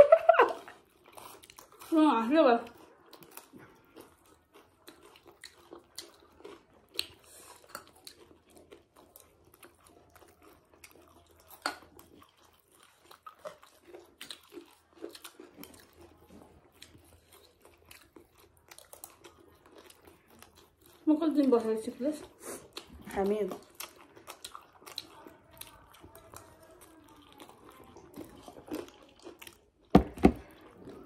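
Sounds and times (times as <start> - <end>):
chewing crunchy snack: 0.4 - 31.0.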